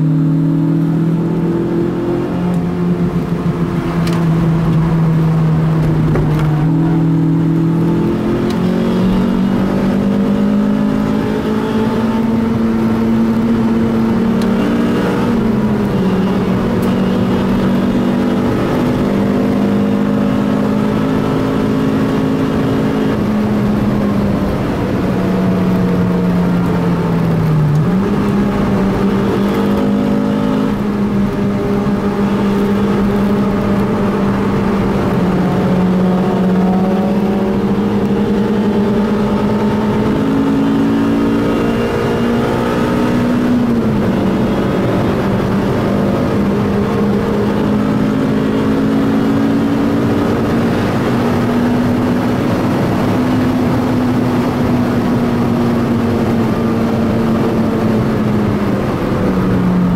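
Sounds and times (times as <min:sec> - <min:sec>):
car engine revving: 0:00.0 - 0:59.9
tyre and road noise: 0:00.0 - 0:59.9.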